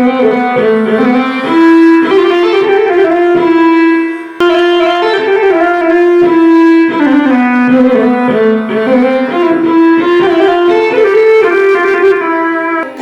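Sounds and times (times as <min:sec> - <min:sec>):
keyboard violin-like melody: 0:00.0 - 0:13.0.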